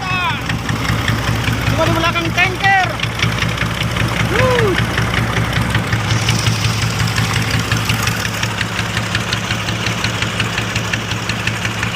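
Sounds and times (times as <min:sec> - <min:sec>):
boat engine idling with knocking: 0:00.0 - 0:11.9.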